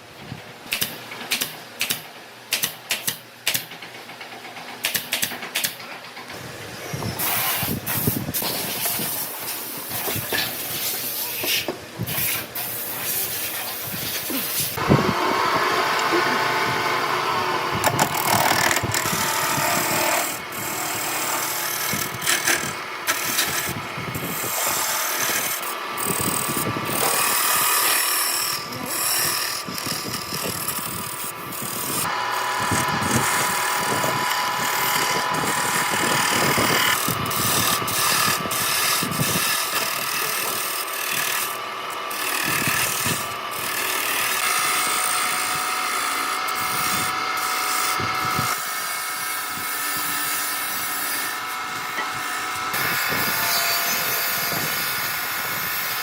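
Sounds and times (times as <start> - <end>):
power tool cutting wood: 6.3 - 56.0.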